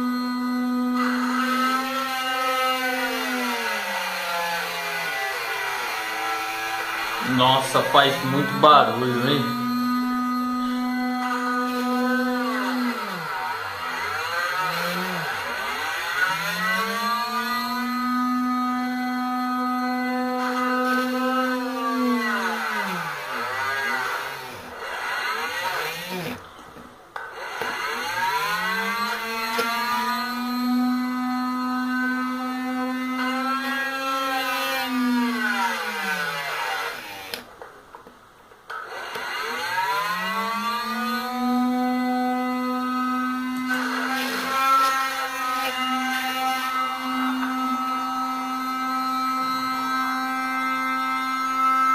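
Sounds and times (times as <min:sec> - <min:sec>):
small motor whining: 0:00.0 - 0:38.1, 0:38.7 - 0:51.9.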